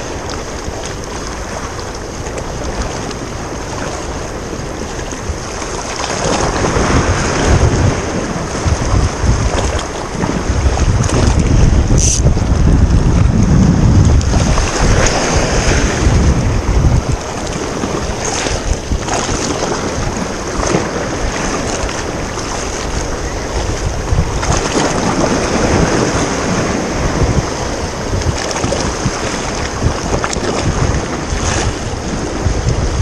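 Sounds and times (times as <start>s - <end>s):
sea waves: 0.0s - 33.0s
wind buffeting microphone: 0.0s - 33.0s.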